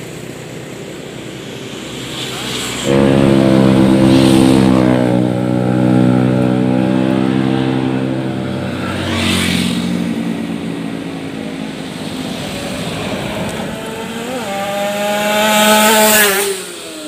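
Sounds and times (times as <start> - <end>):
motorcycle revving past: 1.6 - 17.0.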